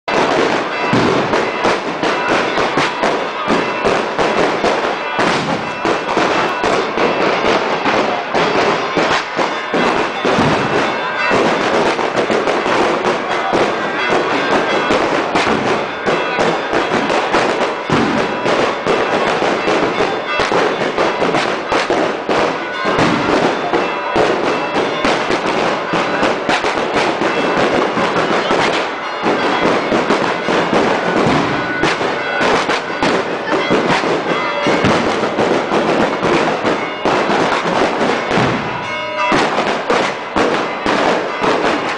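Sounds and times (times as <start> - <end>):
firecrackers banging and crackling: 0.0 - 41.9.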